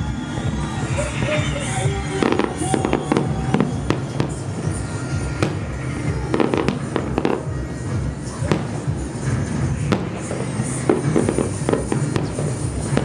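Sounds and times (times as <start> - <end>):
fireworks bursting with bangs: 0.0 - 13.0
music playing: 0.0 - 13.0.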